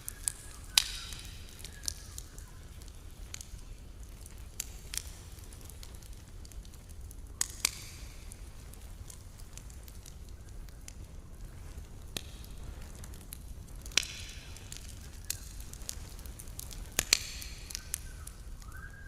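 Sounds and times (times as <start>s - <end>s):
burning wood crackling and popping: 0.0s - 19.0s
campfire rumble: 0.0s - 19.0s.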